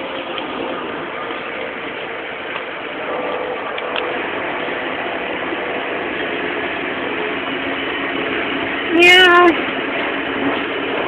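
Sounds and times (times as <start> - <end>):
train rattling from inside carriage: 0.0 - 11.0.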